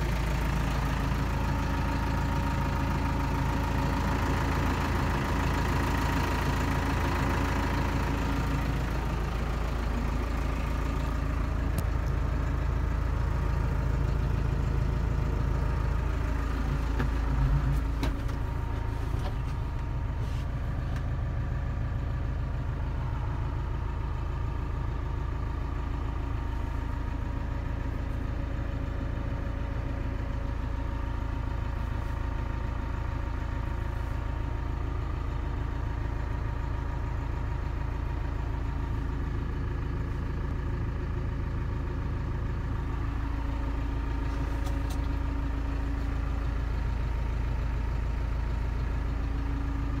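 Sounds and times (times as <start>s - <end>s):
tractor engine idling: 0.0s - 50.0s.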